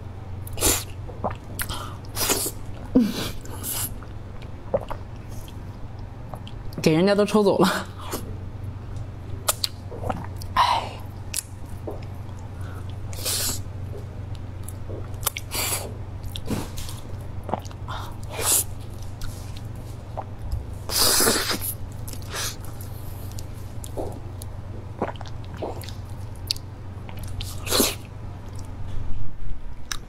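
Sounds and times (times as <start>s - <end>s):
chewing soft fruit: 0.4s - 6.8s, 8.0s - 28.9s.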